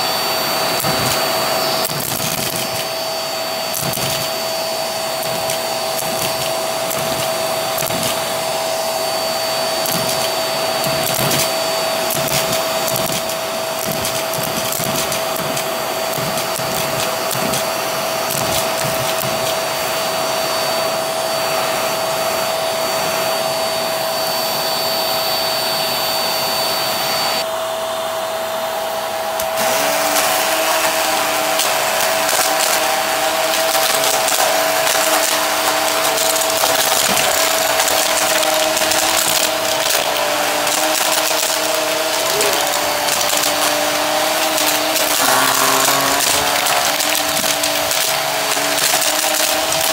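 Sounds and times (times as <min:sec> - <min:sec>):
vacuum cleaner whining: 0:00.0 - 0:49.9.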